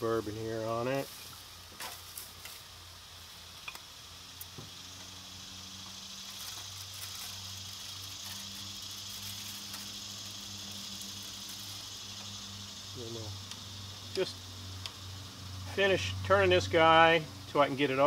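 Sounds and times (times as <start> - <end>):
faint sizzle: 0.0 - 18.0
gas grill hissing: 0.0 - 18.0
rotisserie motor hum: 2.2 - 18.0.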